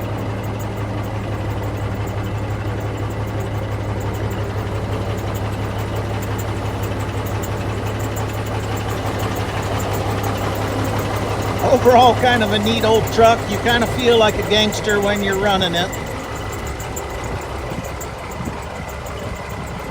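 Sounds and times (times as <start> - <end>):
diesel truck engine idling: 0.0 - 19.9.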